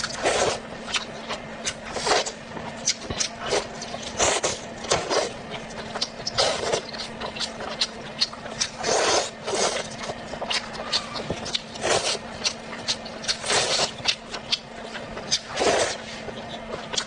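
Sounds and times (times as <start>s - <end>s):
chewing and crunching food: 0.0s - 17.0s
faint steady hum: 0.0s - 17.0s.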